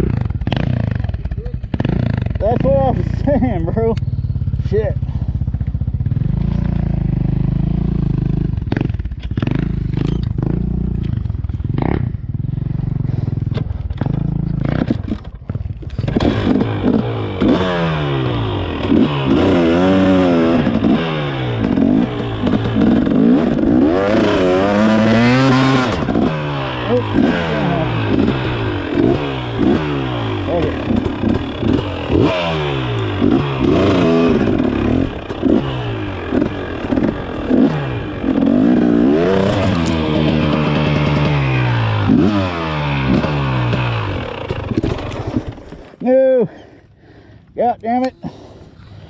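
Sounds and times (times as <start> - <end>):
dirt bike engine revving: 0.0 - 46.1.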